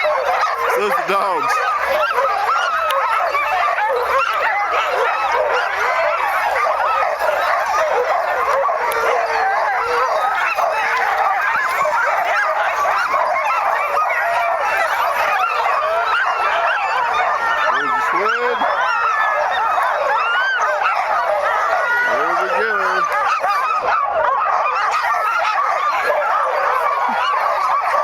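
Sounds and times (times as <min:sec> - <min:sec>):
dogs yelping and barking: 0:00.0 - 0:28.0.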